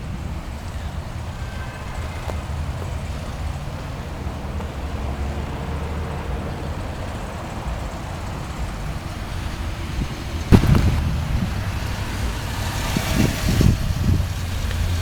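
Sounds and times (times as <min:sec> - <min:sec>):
engine exhaust idling: 0:00.0 - 0:15.0.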